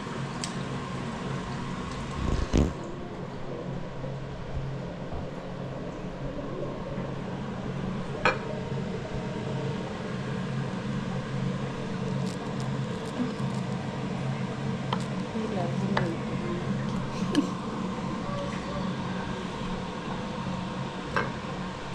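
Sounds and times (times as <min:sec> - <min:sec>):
appliance hum: 0:00.0 - 0:21.9.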